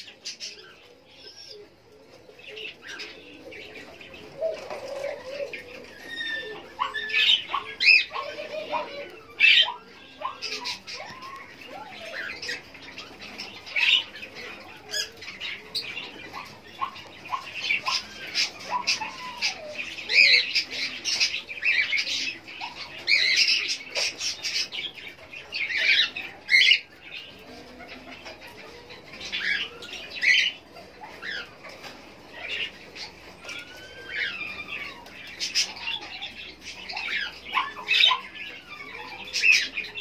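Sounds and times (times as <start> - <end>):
lovebirds squawking and chirping: 0.0 - 40.0.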